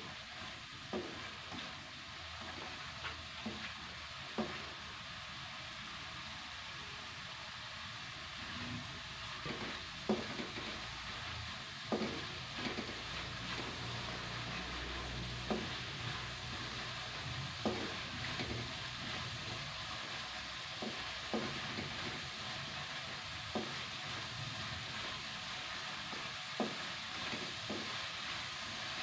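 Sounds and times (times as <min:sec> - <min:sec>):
spice paste sizzling in a wok: 0:00.0 - 0:29.0.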